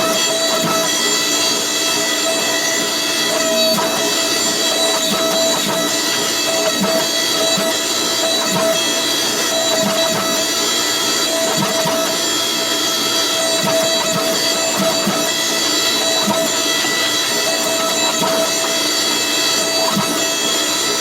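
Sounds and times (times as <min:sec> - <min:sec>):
power tool grinding steel: 0:00.0 - 0:21.0.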